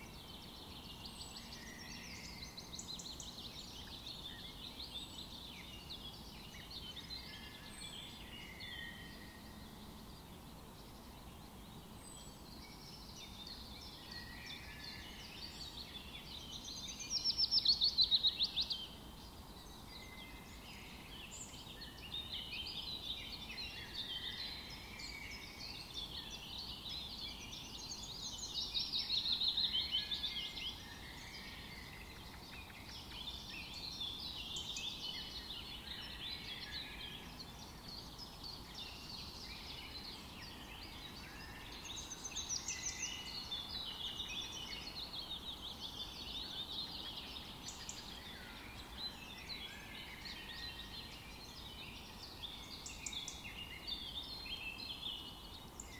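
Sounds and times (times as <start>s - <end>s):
birds chirping and singing: 0.0s - 55.9s
faint steady hiss: 0.0s - 55.9s.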